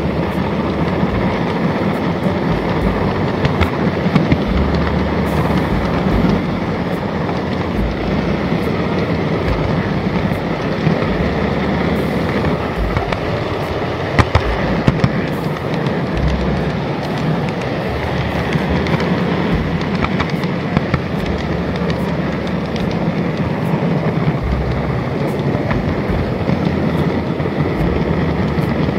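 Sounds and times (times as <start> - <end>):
sharp clicks of wheels on track: 0.0 - 28.9.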